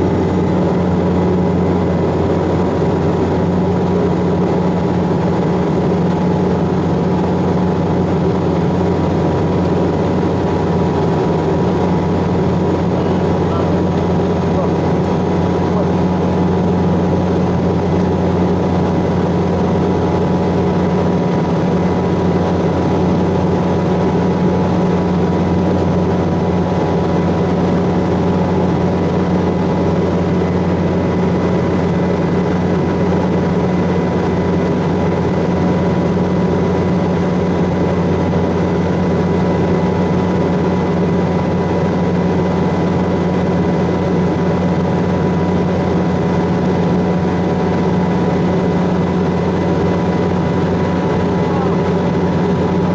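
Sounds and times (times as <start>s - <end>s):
aircraft engines droning: 0.0s - 52.9s.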